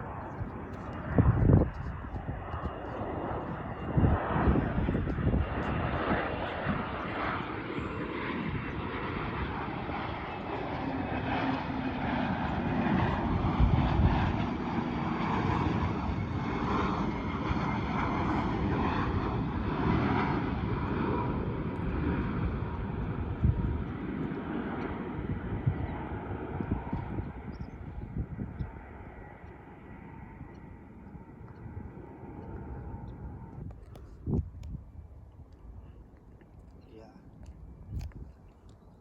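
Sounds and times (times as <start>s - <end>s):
airliner engines rumbling: 0.0s - 39.0s.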